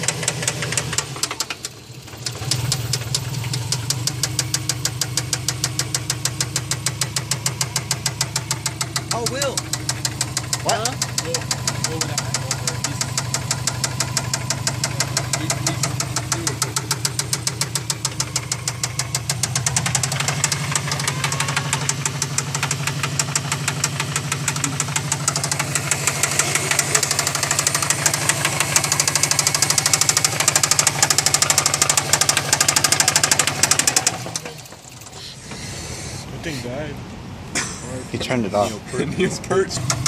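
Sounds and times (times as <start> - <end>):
fast regular engine knocking: 0.0 - 35.2, 39.6 - 40.0
car engine running: 0.0 - 40.0.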